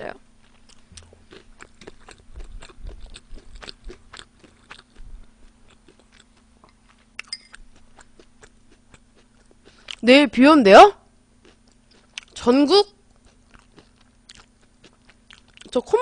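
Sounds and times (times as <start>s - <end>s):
chewing and crunching fried chicken: 0.4s - 10.1s, 11.3s - 16.0s.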